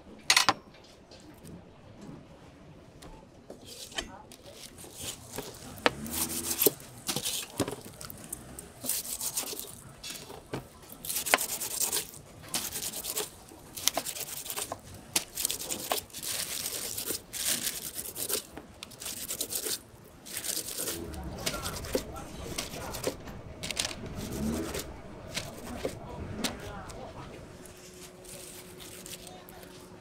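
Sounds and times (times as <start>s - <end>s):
cleaver scraping pineapple rind: 3.6s - 30.0s.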